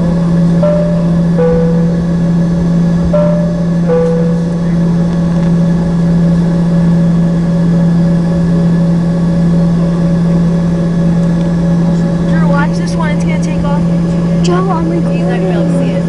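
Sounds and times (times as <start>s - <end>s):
jet engines humming in cabin: 0.0s - 16.0s.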